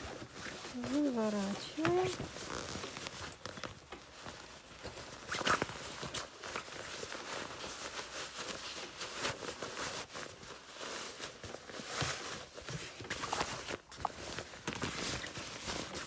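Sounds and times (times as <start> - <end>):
fabric rustling and brushing: 0.0 - 16.0.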